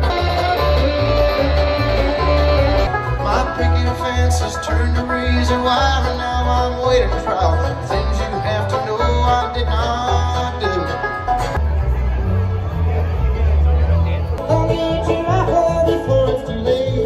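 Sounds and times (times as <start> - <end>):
upright bass beat: 0.0 - 11.8, 14.4 - 17.0
banjo picking: 0.0 - 17.0
bluegrass band playing live: 0.0 - 17.0.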